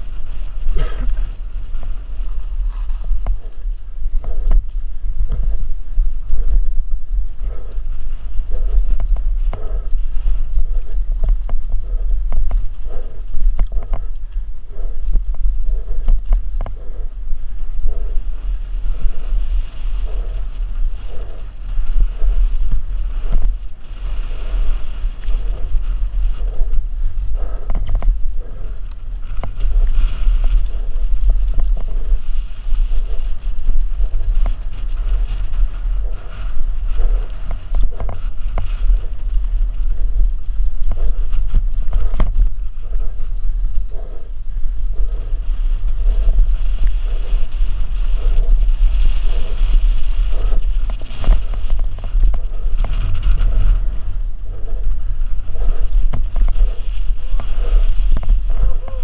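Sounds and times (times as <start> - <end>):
bike tyre noise: 0.0 - 59.0
wind rumble on microphone: 0.0 - 59.0.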